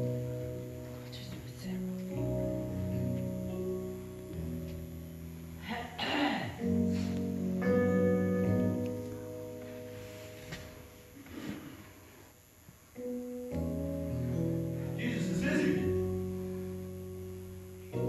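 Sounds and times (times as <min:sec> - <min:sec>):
slow keyboard chords: 0:00.0 - 0:18.0.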